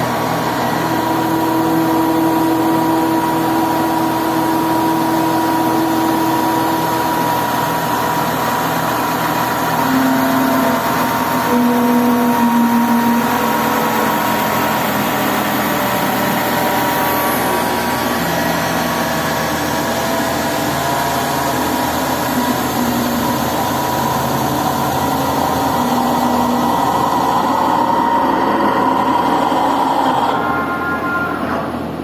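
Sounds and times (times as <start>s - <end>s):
metal-spinning lathe running: 0.0s - 32.0s.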